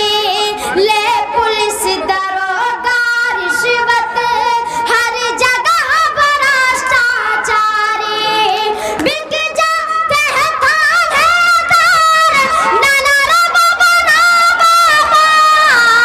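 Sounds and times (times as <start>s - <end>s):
boy singing into a microphone: 0.0s - 16.0s.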